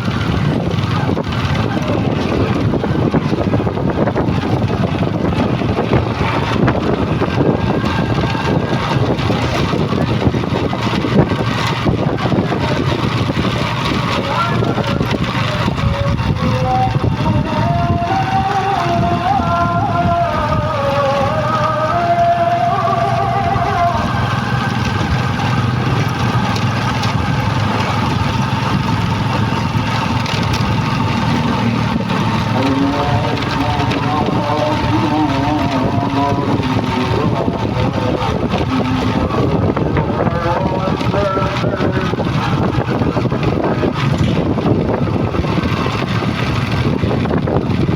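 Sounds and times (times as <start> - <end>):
heavy truck engines running: 0.0 - 47.9.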